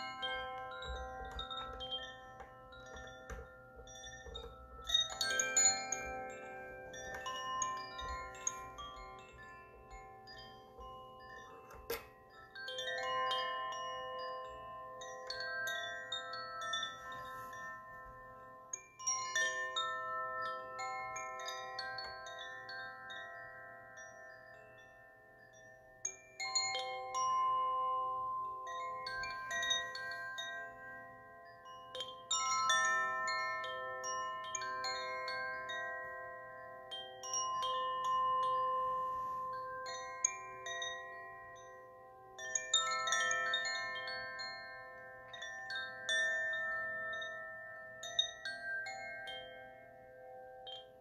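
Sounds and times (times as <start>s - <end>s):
wind chimes tinkling: 0.0s - 51.0s.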